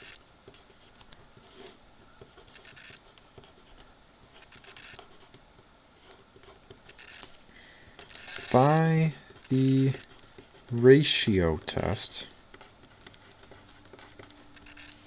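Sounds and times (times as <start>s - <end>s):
pen scratching on paper: 0.0s - 5.4s, 6.0s - 7.4s, 8.0s - 15.0s.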